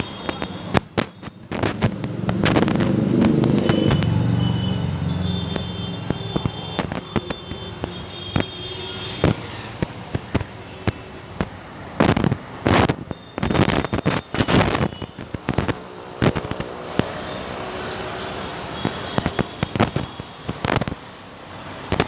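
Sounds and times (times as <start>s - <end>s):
firecrackers cracking and banging: 0.0s - 4.5s, 5.2s - 17.4s, 18.6s - 22.0s.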